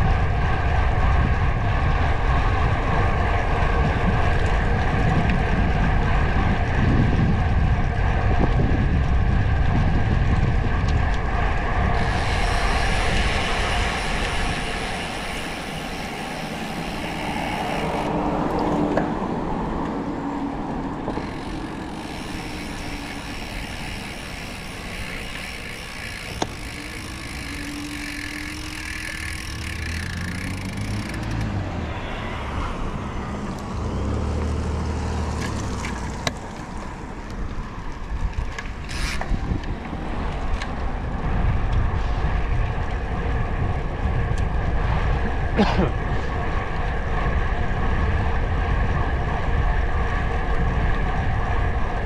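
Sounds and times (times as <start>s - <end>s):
road noise on wet roads: 0.0s - 52.0s
wind buffeting microphone: 0.0s - 52.0s.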